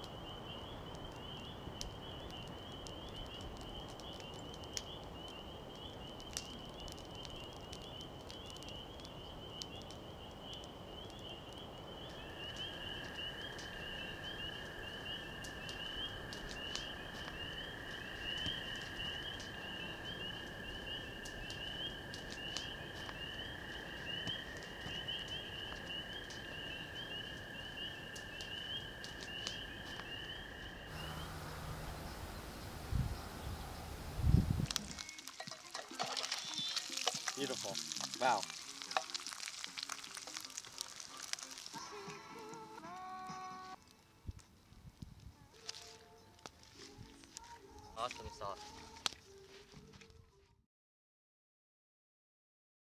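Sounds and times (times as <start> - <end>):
frogs trilling: 0.0 - 42.7
campfire crackling and popping: 0.0 - 49.9.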